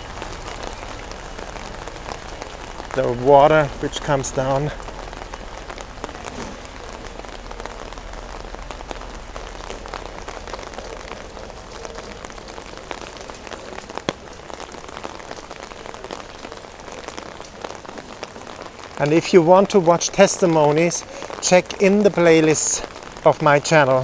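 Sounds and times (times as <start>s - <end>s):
heavy rain on umbrella: 0.0s - 24.0s.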